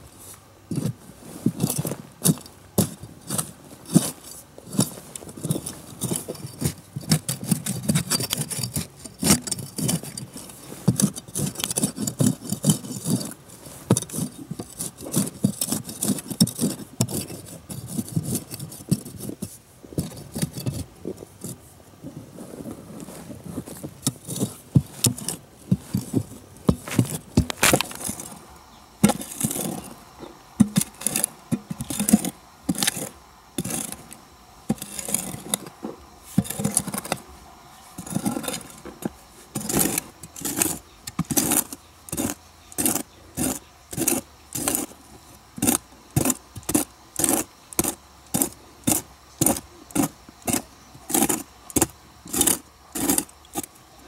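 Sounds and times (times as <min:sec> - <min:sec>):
hand tool scraping strokes: 0:00.1 - 0:53.9.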